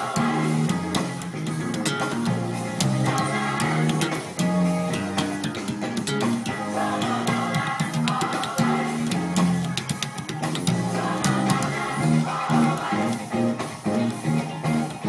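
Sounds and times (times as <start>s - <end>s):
backing music with drums: 0.0s - 15.0s
bass guitar line: 0.0s - 15.0s.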